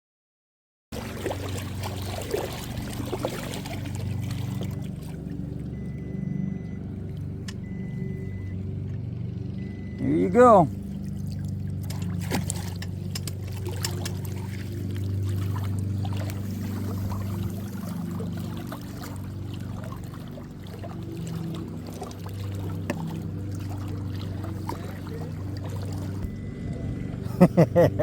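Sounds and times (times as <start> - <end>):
water trickling and splashing: 0.9 - 27.6
boat motor humming: 0.9 - 28.0.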